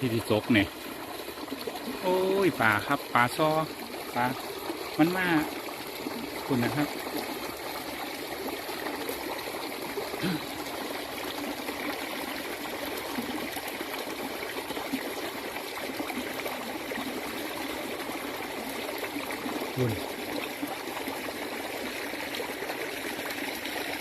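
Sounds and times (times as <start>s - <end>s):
water trickling stream: 0.0s - 24.0s.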